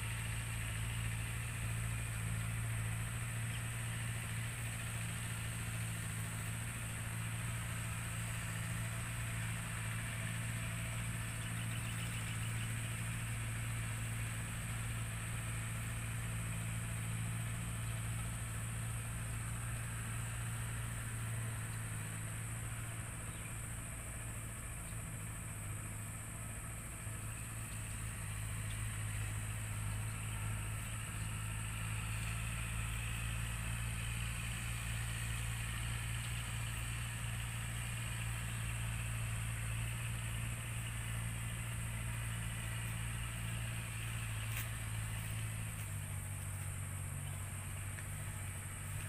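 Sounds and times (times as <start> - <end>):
engine idling: 0.0 - 49.0.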